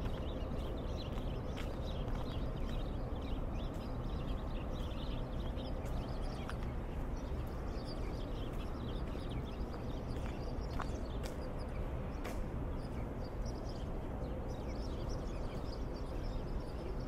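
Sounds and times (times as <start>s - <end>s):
footsteps on wet pavement: 0.0s - 14.2s
low town hum: 0.0s - 17.0s
small birds chirping: 0.0s - 17.0s.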